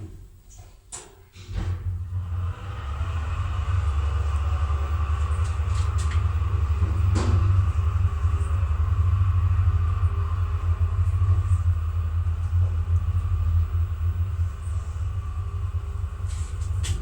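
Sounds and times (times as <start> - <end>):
winch humming: 1.8 - 17.0
higher drone: 2.0 - 17.0.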